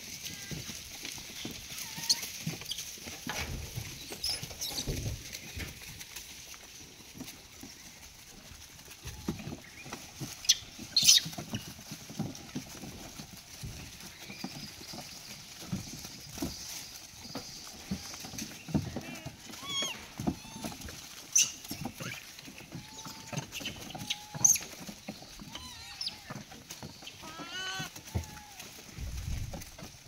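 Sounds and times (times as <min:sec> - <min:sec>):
monkeys scrambling and feeding: 0:00.0 - 0:30.0.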